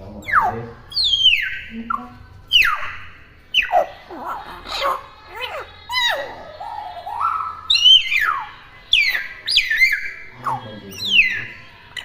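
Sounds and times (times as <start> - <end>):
myna bird whistling and calling: 0.2 - 11.7.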